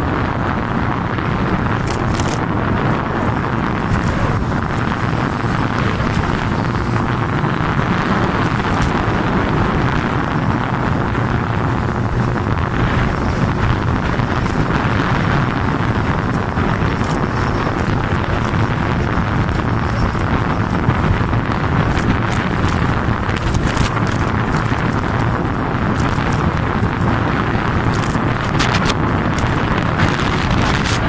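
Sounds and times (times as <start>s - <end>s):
motorcycle engine: 0.0s - 31.0s
road noise: 0.0s - 31.0s
wind rushing on microphone: 0.0s - 31.0s.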